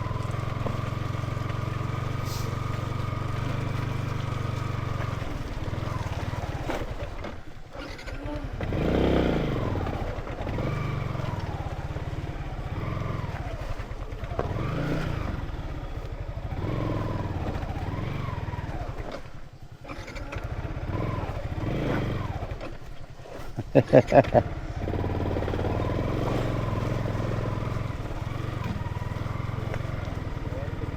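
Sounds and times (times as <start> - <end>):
small motorcycle engine revving: 0.0 - 30.9.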